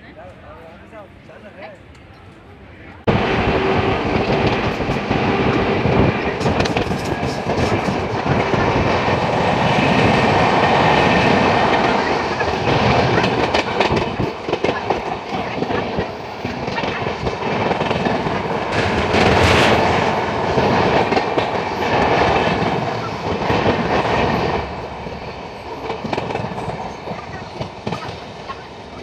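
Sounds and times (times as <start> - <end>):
train wheels clattering over rail joints: 4.0 - 28.4.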